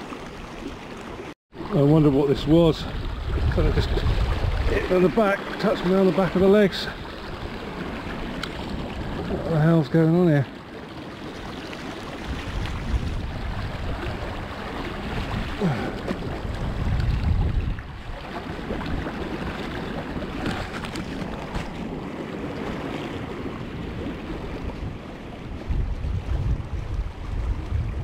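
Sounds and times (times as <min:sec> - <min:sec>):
fast river water rushing: 0:00.0 - 0:28.0
wind buffeting microphone: 0:01.6 - 0:10.4, 0:11.3 - 0:28.0.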